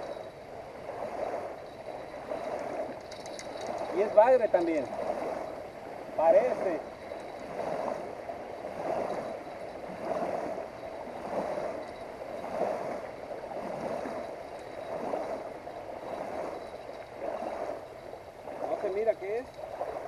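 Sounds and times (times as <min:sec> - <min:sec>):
small waves lapping on sand: 0:00.0 - 0:20.0.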